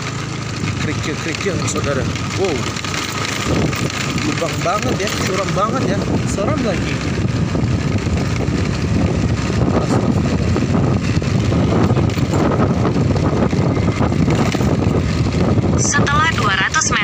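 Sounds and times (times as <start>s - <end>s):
motorcycle engine running: 0.0s - 17.0s
road and wind noise: 0.0s - 17.0s.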